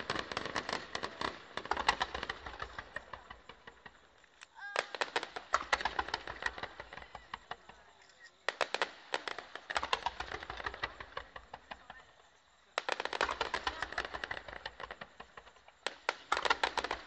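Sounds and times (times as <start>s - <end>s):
aerial fireworks crackling: 0.0s - 17.0s.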